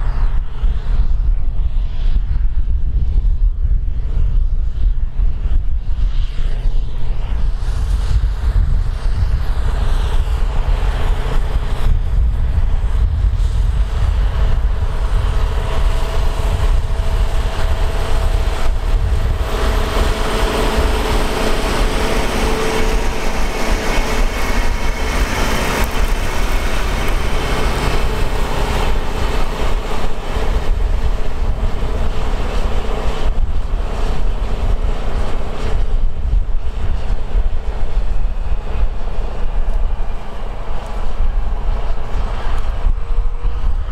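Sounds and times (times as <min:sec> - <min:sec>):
tractor engine rumbling: 0:07.6 - 0:43.9.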